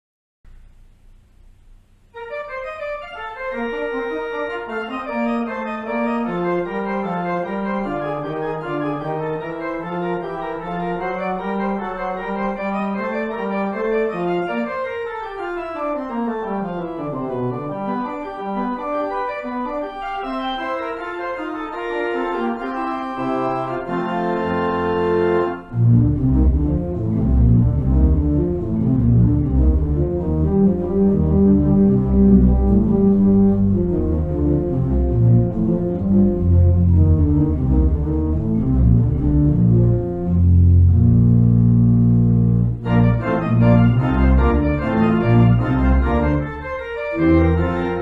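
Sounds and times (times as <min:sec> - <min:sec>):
organ music: 0:02.2 - 0:48.0.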